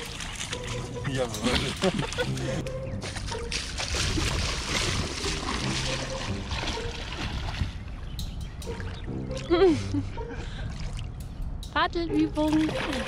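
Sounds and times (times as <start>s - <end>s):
water sloshing around legs: 0.0s - 13.0s.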